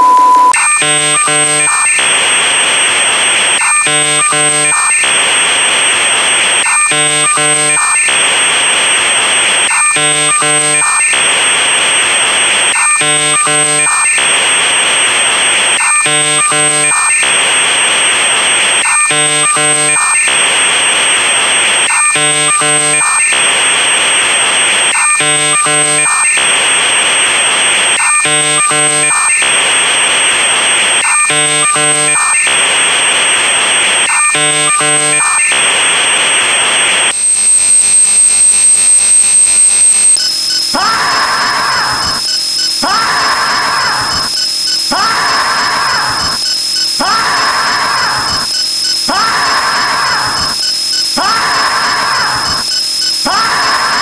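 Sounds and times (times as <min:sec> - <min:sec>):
buzzing stacked tones: 0:00.0 - 0:54.0.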